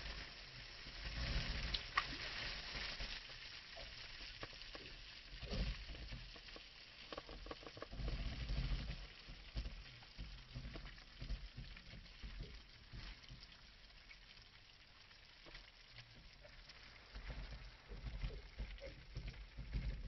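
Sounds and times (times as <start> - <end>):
water lapping against boat hull: 3.0 - 20.0.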